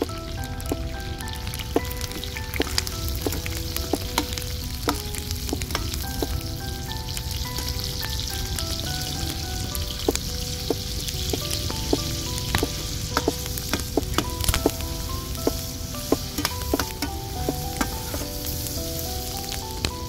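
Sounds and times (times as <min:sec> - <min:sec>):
quiet background tune: 0:00.0 - 0:20.0
vegetables sizzling in a pan: 0:00.8 - 0:20.0.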